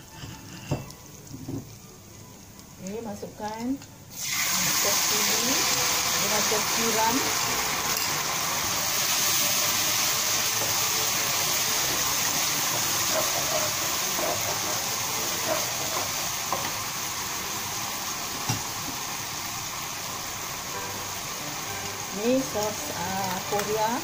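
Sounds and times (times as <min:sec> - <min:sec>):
sauce sizzling in hot oil: 0:00.0 - 0:24.0.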